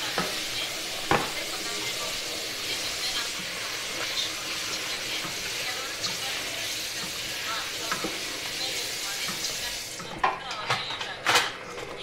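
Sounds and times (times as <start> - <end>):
curry sizzling in a pot: 0.0 - 10.7.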